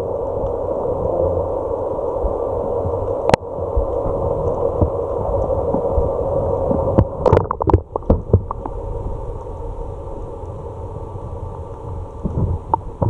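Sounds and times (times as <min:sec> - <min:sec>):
muffled underwater hiss: 0:00.0 - 0:13.0.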